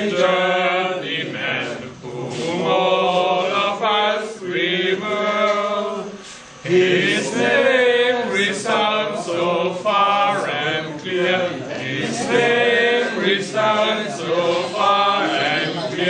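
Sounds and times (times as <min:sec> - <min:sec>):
men singing unaccompanied: 0:00.0 - 0:16.0.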